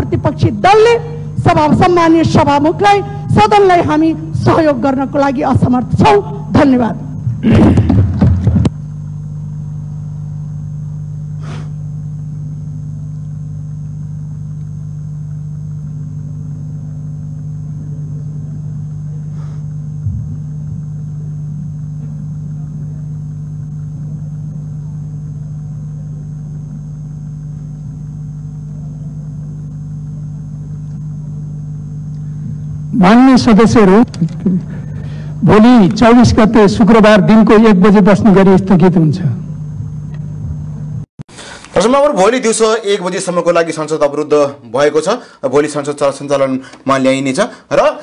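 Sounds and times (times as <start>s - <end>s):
faint high whine: 0.0s - 48.0s
low electrical hum: 0.0s - 48.0s.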